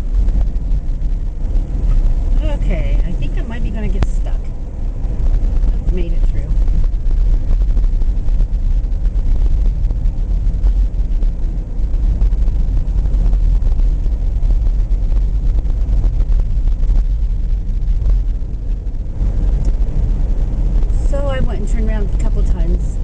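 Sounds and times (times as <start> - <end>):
vehicle rumble from inside cabin: 0.0 - 23.0.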